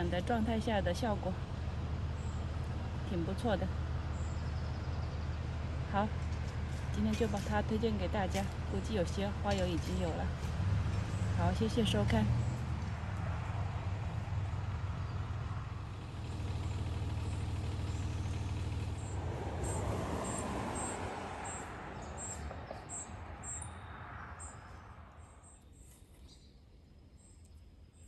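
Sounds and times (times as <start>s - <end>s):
passing vehicle rumble: 0.0s - 25.6s.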